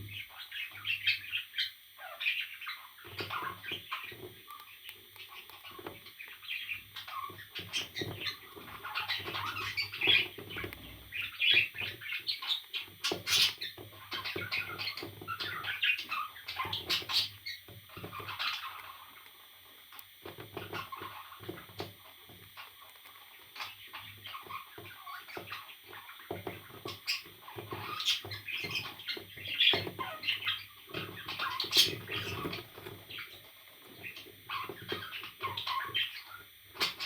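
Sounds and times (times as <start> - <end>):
parrot chirping: 0.2 - 19.3, 22.6 - 26.3, 26.9 - 33.4, 34.0 - 37.0.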